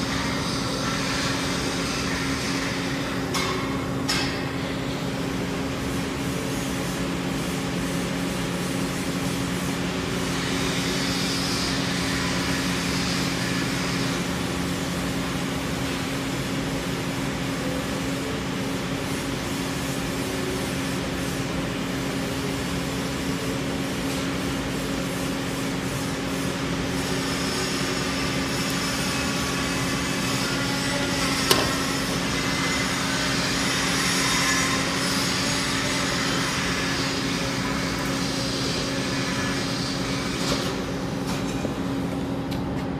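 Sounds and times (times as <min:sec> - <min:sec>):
welding arc hissing: 0:00.0 - 0:41.0
low electrical hum: 0:00.0 - 0:42.9.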